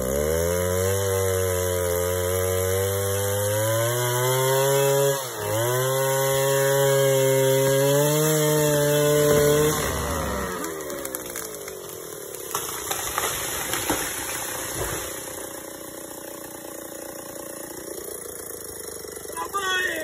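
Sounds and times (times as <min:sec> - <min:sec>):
chainsaw revving down to idle: 0:00.0 - 0:20.0.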